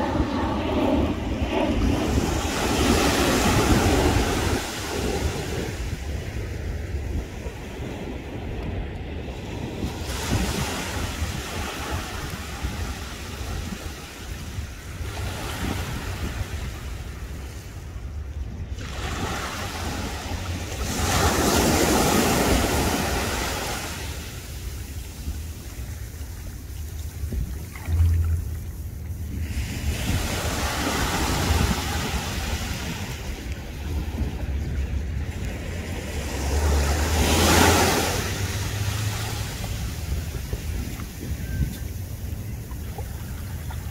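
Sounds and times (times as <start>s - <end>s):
surf washing up beach: 0.0s - 43.9s
wind on microphone: 0.0s - 43.9s.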